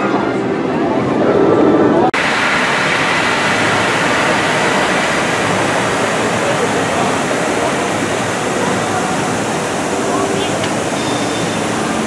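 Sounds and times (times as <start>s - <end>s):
splashing water rushing: 2.2s - 12.0s.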